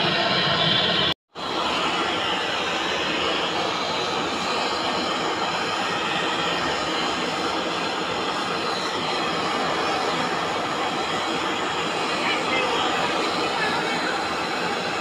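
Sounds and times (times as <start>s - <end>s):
gas torch flame rushing: 0.0s - 15.0s.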